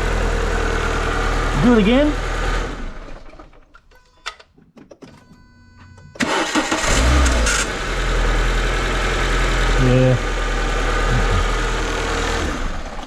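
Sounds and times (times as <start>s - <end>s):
car engine cranking and starting: 0.0s - 13.0s.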